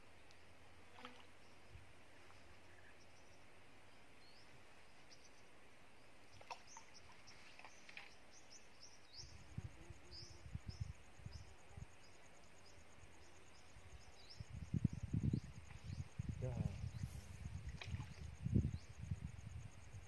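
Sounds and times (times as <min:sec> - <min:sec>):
faint bird chirps: 0:01.1 - 0:20.0.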